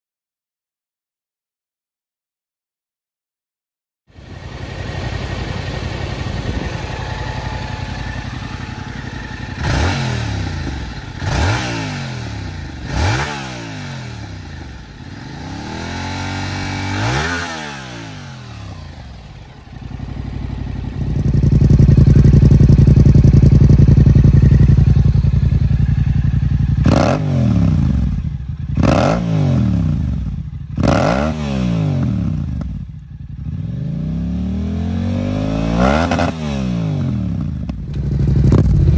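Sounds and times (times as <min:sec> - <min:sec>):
motorcycle engine revving: 0:04.1 - 0:38.9.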